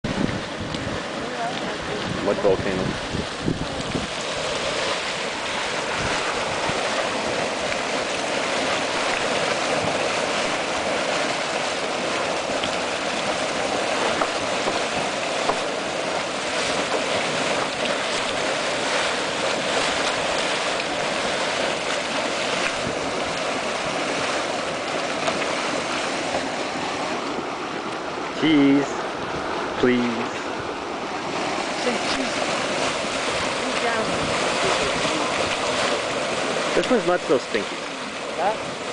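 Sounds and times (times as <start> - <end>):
mud pool churning and sloshing: 0.0 - 38.9.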